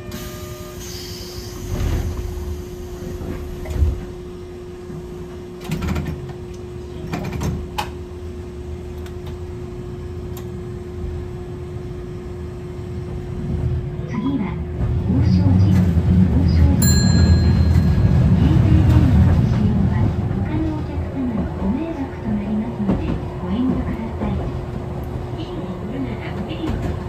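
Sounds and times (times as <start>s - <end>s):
streetcar hum and rumble: 0.0s - 27.0s.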